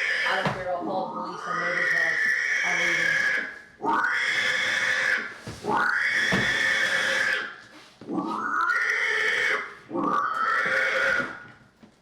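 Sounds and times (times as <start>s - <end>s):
pig squealing: 0.0s - 11.5s.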